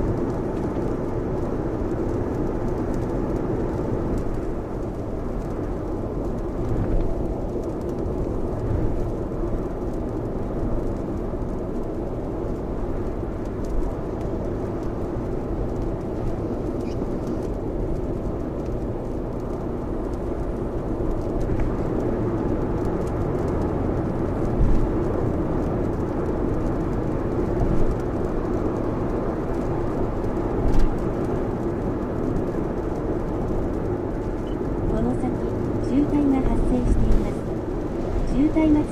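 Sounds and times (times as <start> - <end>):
road and rain noise in car: 0.0 - 38.9.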